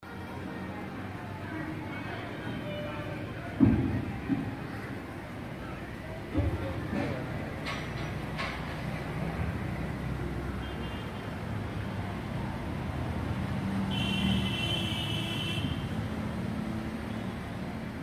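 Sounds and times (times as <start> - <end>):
road traffic rumbling: 0.0 - 18.0.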